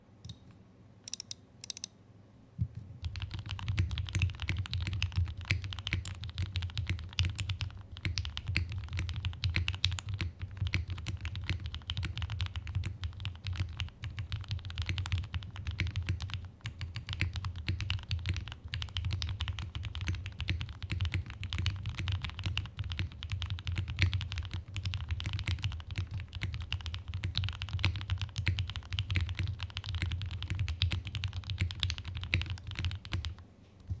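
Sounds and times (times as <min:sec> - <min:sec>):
mechanical keyboard typing: 0:03.0 - 0:33.4.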